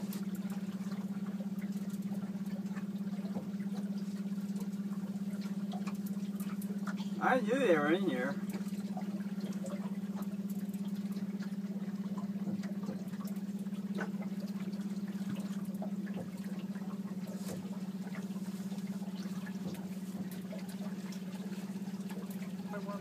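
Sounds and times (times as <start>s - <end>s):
outboard motor running: 0.0s - 23.0s
water splashes: 0.0s - 23.0s.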